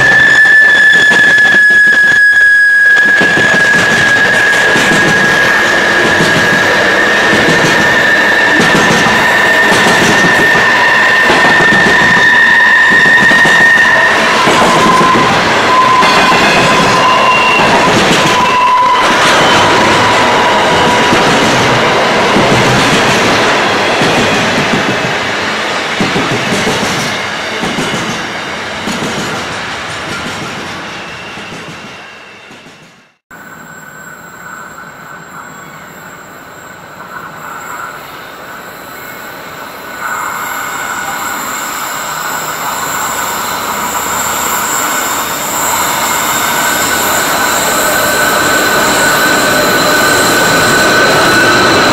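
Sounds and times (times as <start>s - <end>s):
wheel squeal: 0.0s - 22.4s, 30.8s - 32.8s, 33.4s - 51.9s.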